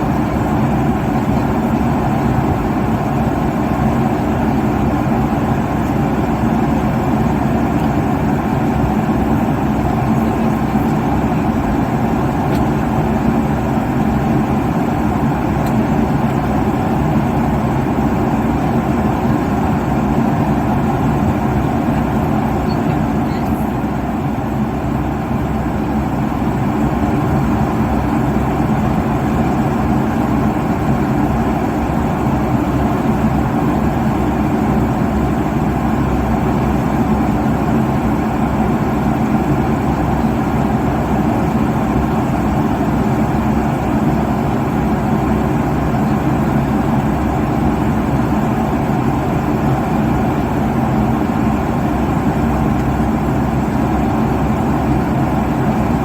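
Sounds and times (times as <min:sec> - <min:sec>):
jet engine and airflow rush: 0:00.0 - 0:56.0.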